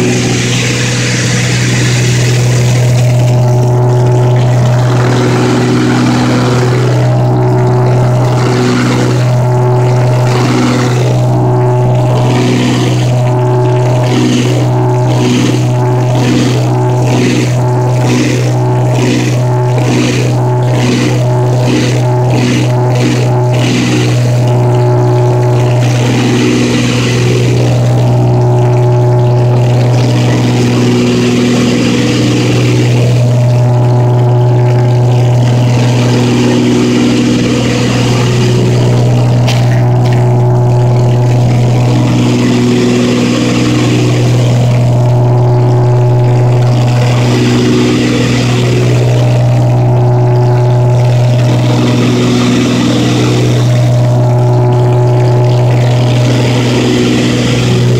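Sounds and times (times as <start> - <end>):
propeller plane engines droning: 0.0 - 57.9.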